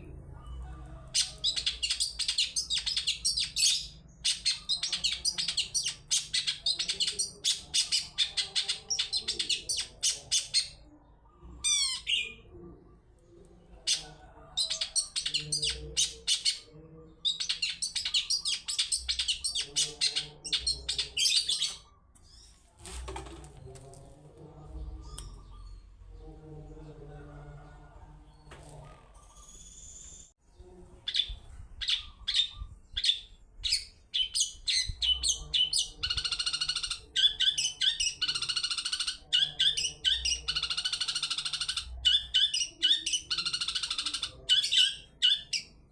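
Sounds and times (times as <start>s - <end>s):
bird chirping song: 0.0s - 22.6s, 23.5s - 45.9s.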